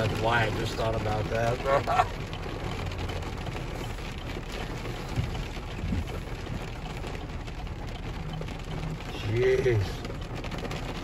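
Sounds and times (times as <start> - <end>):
low steady rumble: 0.0 - 11.0
rain hitting a vehicle: 0.0 - 11.0.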